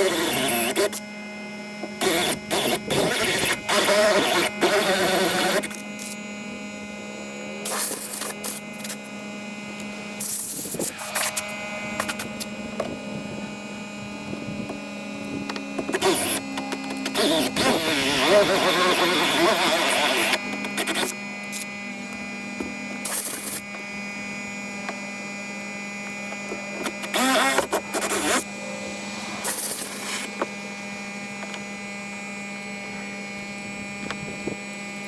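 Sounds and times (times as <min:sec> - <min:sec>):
steady hum: 0:00.0 - 0:34.8
small electric motor whirring: 0:00.0 - 0:35.0.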